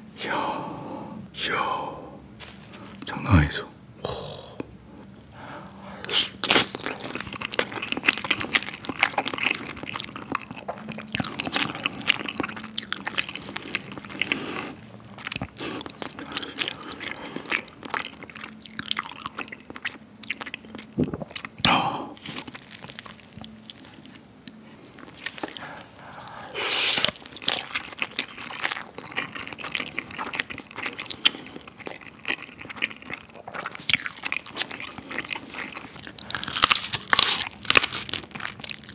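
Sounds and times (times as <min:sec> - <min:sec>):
wet chewing and lip smacking: 0:05.7 - 0:21.6, 0:22.2 - 0:38.9.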